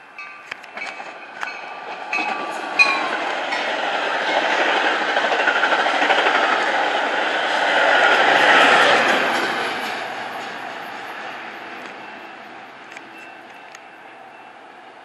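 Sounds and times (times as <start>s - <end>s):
crossing warning bells: 0.0s - 6.8s, 7.7s - 15.0s
train wheels clattering over rails: 0.4s - 14.4s.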